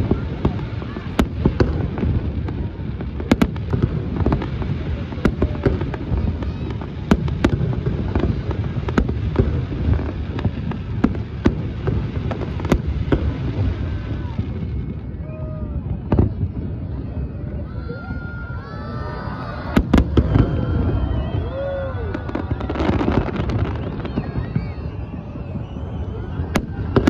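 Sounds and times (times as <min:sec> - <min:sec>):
fireworks cracks and bangs: 0:00.0 - 0:27.0
fireworks rumbling: 0:00.0 - 0:27.0.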